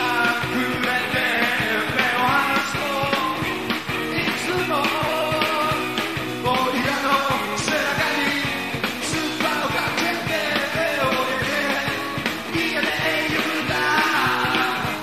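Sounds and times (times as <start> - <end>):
electric guitars: 0.0 - 15.0
person singing: 0.0 - 15.0
steady drum beat: 0.0 - 15.0.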